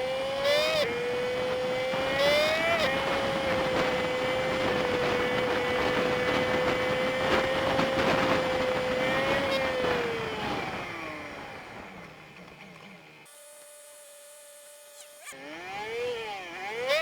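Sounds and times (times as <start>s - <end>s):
wind and road noise: 0.0s - 13.7s, 14.4s - 17.0s
sped-up motorcycle engine hum: 0.0s - 17.0s.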